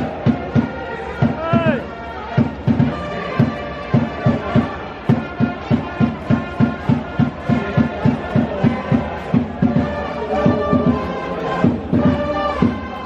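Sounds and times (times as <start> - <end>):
bass drum beat: 0.0 - 13.0
trumpets playing cheer song: 0.0 - 13.0.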